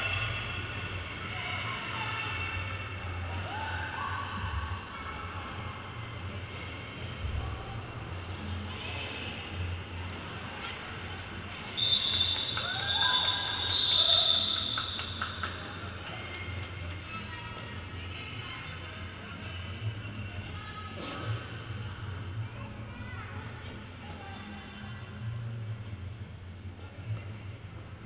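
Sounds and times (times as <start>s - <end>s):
crowd chatter: 0.0s - 25.5s.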